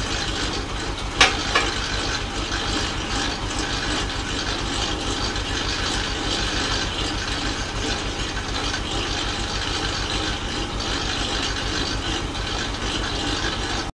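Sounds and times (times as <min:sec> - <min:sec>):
tractor engine idling: 0:00.0 - 0:13.9.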